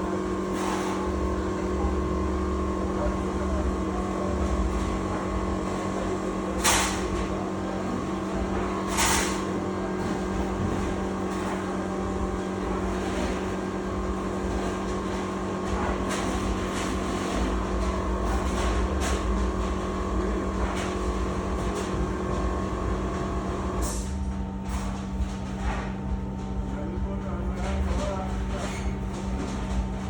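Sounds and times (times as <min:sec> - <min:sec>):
machinery humming with low rumble: 0:00.0 - 0:30.0.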